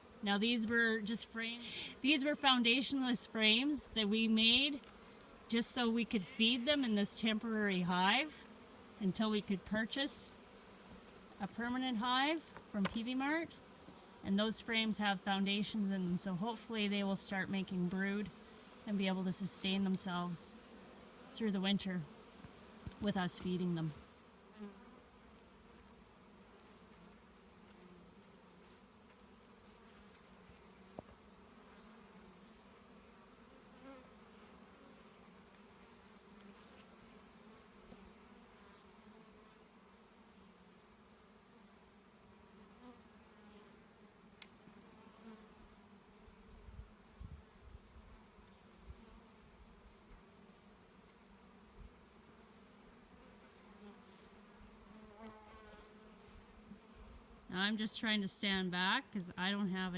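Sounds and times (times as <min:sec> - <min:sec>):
bee swarm buzzing: 0:00.0 - 0:59.9.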